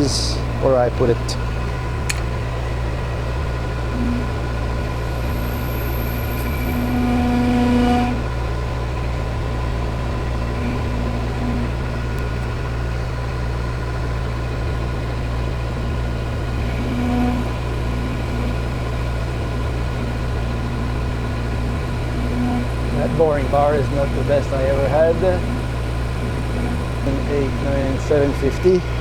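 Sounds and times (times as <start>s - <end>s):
lathe motor hum: 0.0s - 29.0s.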